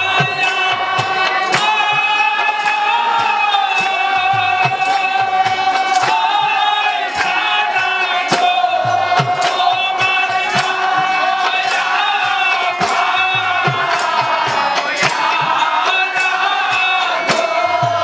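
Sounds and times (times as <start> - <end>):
group singing a chant: 0.0 - 18.0
hand clapping: 0.0 - 18.0
percussion beat: 0.0 - 18.0.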